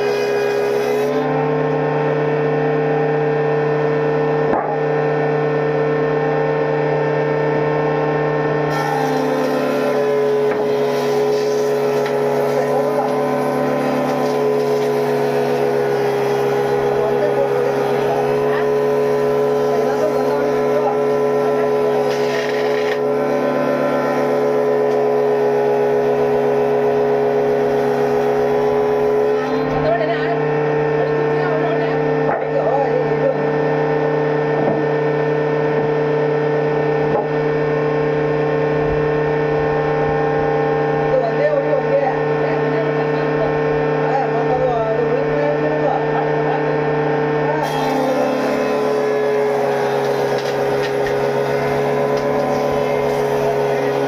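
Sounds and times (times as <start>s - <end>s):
woodworking machine motor humming: 0.0s - 54.0s.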